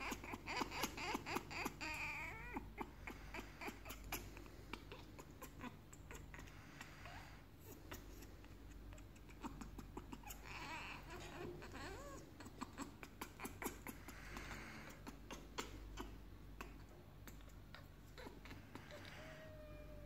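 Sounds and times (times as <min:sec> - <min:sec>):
parrot hoarse calls: 0:00.0 - 0:19.9.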